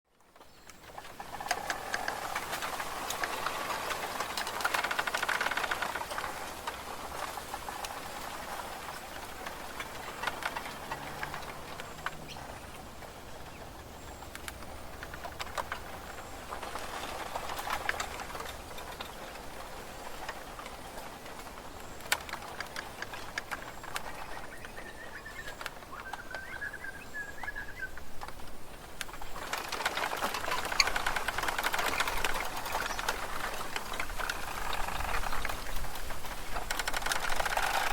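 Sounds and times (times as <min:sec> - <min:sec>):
bamboo rustling: 0:00.1 - 0:37.9.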